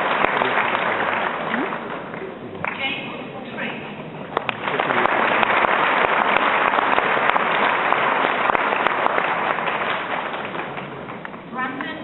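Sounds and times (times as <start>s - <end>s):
audience applauding: 0.0s - 2.8s, 4.3s - 11.5s.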